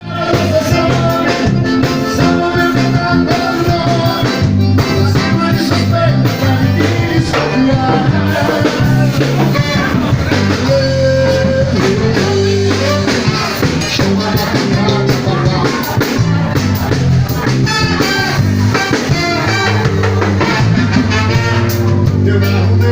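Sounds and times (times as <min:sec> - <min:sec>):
live band music over pa: 0:00.0 - 0:22.9.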